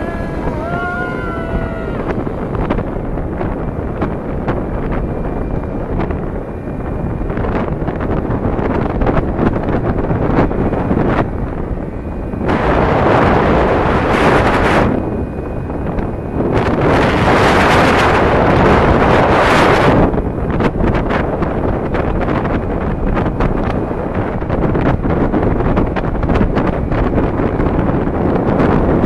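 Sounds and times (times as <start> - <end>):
vehicle rumble: 0.0 - 29.0
wind buffeting microphone: 0.0 - 29.0.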